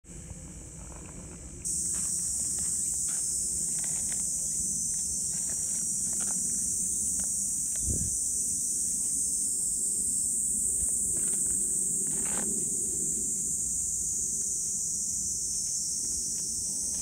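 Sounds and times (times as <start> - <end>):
high-pitched insect chorus: 0.3 - 17.0.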